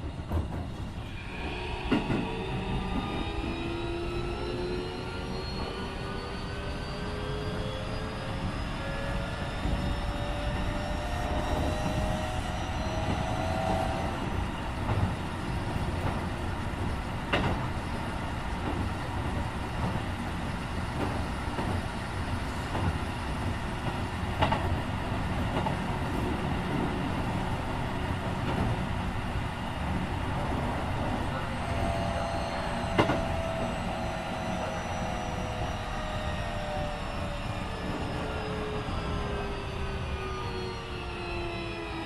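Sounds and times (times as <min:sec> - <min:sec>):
train inverter whine: 0:00.0 - 0:42.0
train rolling noise: 0:00.0 - 0:42.0.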